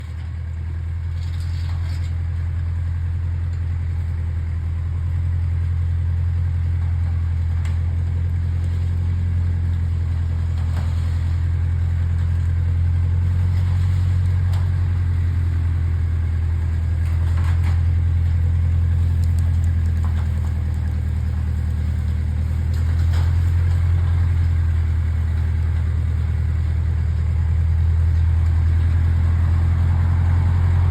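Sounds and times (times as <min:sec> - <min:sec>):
backhoe engine droning: 0:00.0 - 0:30.9.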